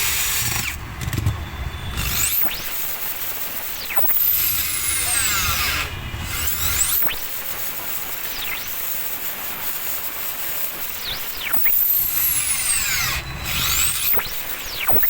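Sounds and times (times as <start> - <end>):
electric drill motor whine: 0.0 - 15.0.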